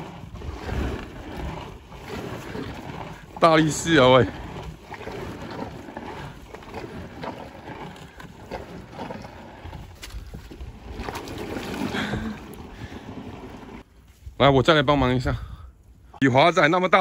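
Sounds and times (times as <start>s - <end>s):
boat hull scraping across mud: 0.0s - 14.0s
wind buffeting microphone: 0.0s - 16.2s.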